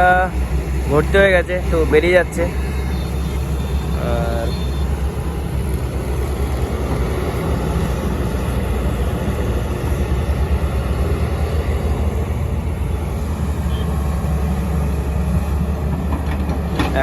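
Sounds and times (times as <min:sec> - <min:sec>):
heavy diesel engines droning: 0:00.0 - 0:17.0.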